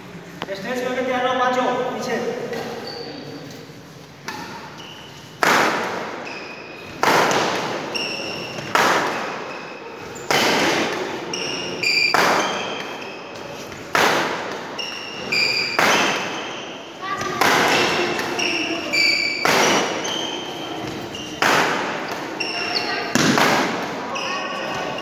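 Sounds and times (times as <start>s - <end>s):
court shoes squeaking: 2.4s - 25.0s.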